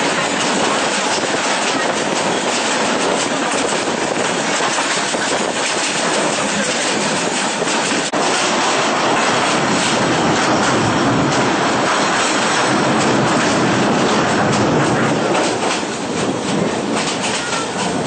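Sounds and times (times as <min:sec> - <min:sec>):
passenger train running: 0:00.0 - 0:18.0.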